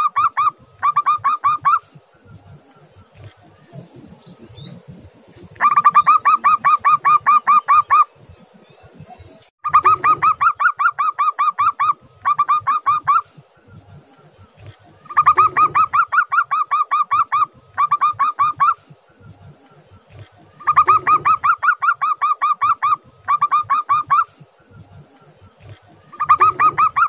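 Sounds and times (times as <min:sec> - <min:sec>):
dove cooing: 0:00.0 - 0:08.2, 0:09.7 - 0:14.0, 0:14.6 - 0:24.9, 0:25.6 - 0:27.0.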